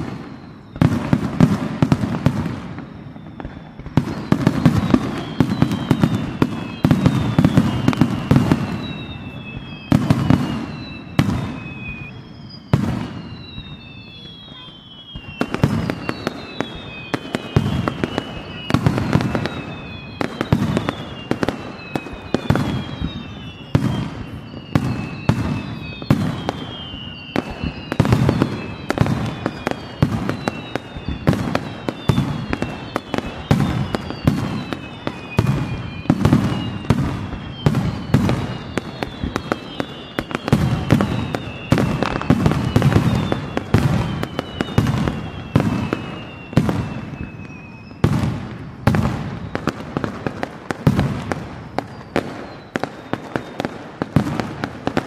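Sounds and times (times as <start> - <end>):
firework whistles gliding down: 0.0 - 55.0.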